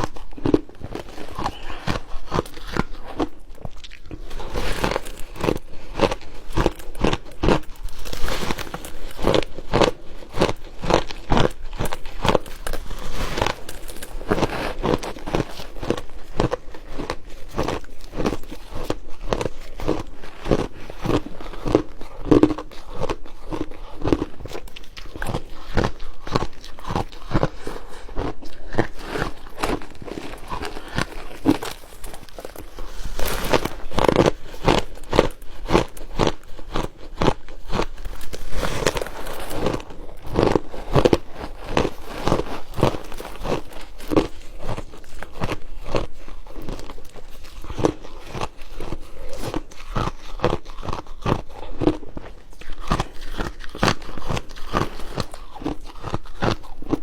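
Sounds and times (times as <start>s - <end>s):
crunching and chewing ice: 0.0s - 57.0s.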